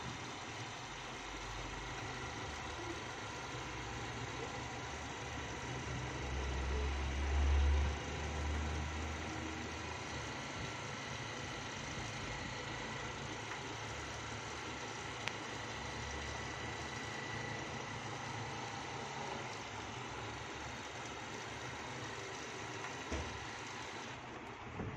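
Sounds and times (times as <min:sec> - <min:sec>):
overlock sewing machine running: 0:00.0 - 0:24.8.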